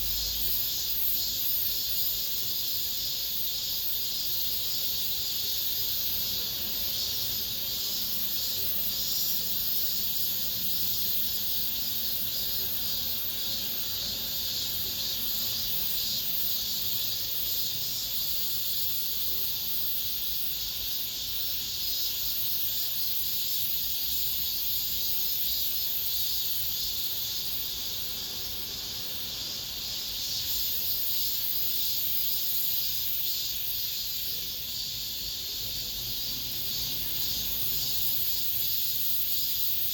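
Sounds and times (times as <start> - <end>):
cicadas singing: 0.0 - 39.9.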